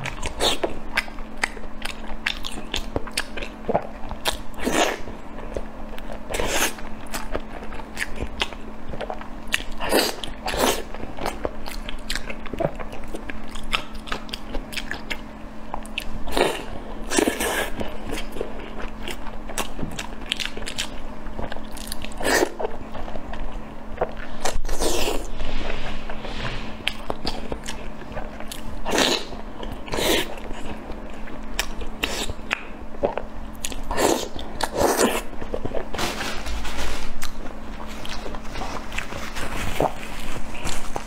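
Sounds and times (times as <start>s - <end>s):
chewing soft food: 0.0s - 41.0s.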